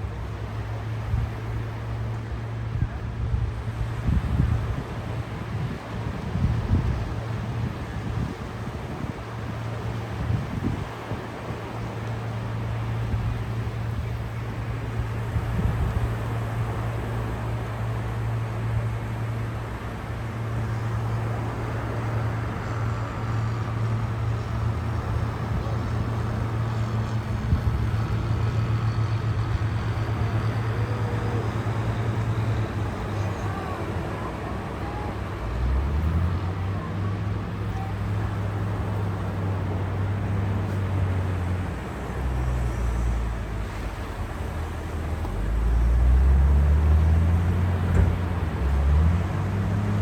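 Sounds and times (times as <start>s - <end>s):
low motor rumble: 0.0s - 50.0s
sea waves washing: 3.6s - 50.0s.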